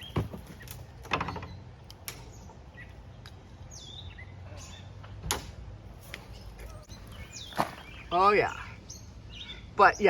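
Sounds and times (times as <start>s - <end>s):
bird chirping: 0.0s - 5.2s, 6.1s - 10.0s.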